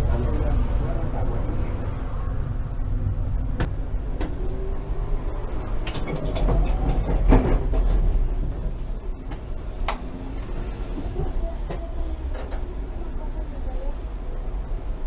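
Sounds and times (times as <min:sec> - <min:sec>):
tram rumbling on track: 0:00.0 - 0:15.0.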